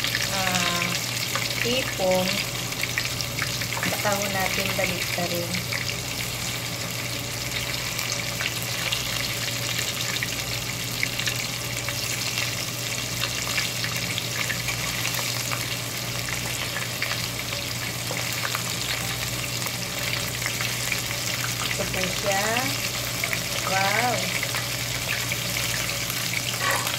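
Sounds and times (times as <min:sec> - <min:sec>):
deep-frying sizzle: 0:00.0 - 0:26.9.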